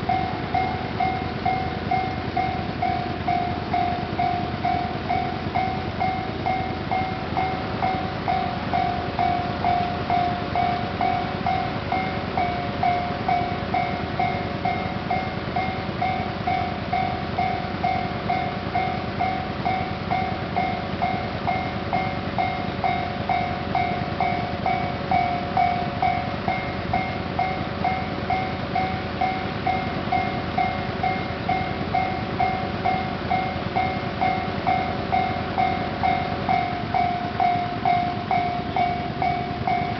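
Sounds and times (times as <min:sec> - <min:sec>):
level-crossing alarm dinging: 0:00.0 - 0:39.9
train noise: 0:00.0 - 0:39.9.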